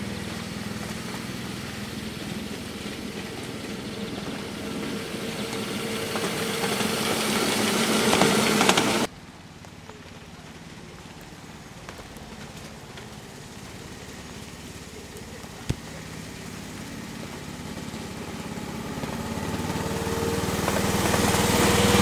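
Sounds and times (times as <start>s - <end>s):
miniature locomotive engine running: 0.0s - 9.1s, 9.8s - 22.0s
distant engine running: 0.0s - 22.0s.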